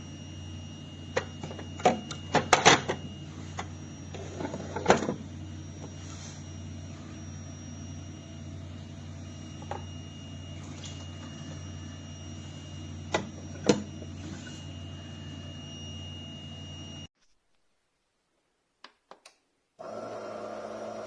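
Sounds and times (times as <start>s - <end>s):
espresso machine humming: 0.0s - 17.1s, 19.8s - 21.0s.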